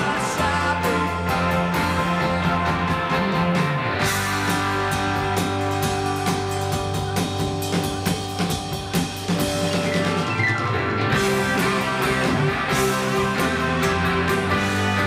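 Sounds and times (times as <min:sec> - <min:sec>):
drums hit hard: 0:00.0 - 0:15.0
rock band playing live: 0:00.0 - 0:15.0.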